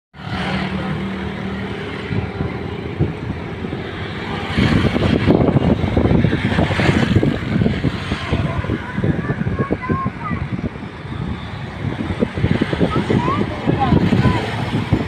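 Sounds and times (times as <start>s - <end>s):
passenger train rumbling: 0.2s - 15.0s.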